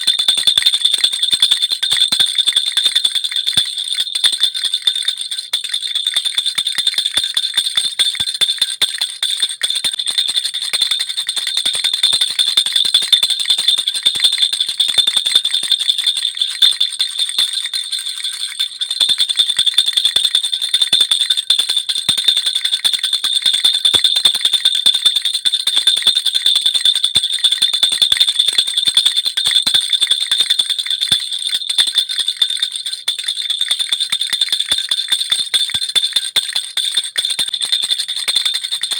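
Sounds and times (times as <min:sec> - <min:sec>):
baby rattle bells jingling: 0:00.0 - 0:38.9.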